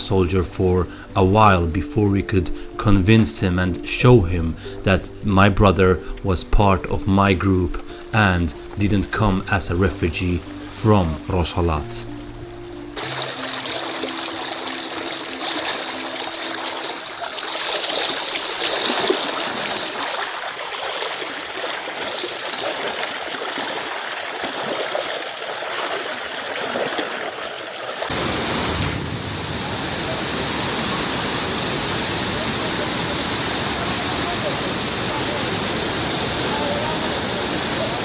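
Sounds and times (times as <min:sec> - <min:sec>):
stream running over rocks: 0:00.0 - 0:38.0.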